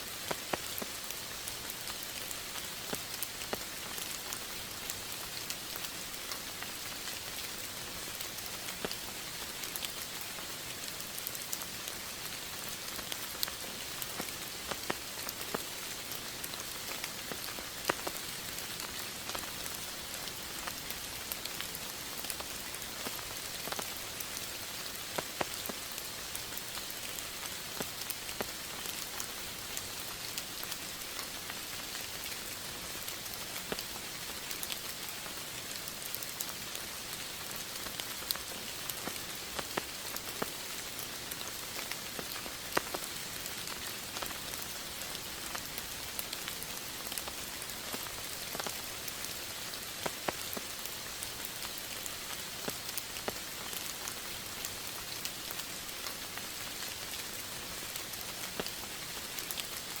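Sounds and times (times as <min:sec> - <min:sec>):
raindrops ticking on a surface: 0:00.0 - 1:00.0
steady rain falling: 0:00.0 - 1:00.0.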